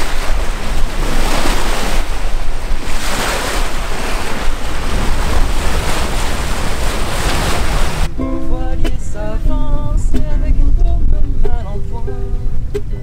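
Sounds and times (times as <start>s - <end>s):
water splashing along a boat hull: 0.0s - 8.1s, 8.7s - 13.0s
wind buffeting the microphone: 0.0s - 13.0s.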